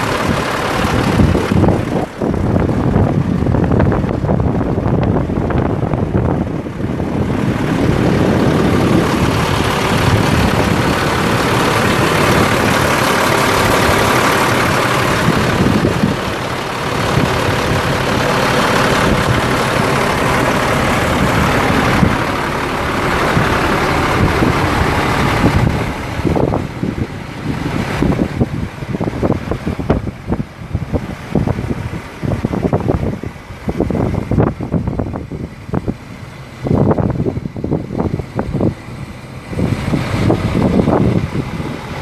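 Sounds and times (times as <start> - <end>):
diesel truck engine idling: 0.0 - 42.0
wind buffeting microphone: 0.0 - 42.0.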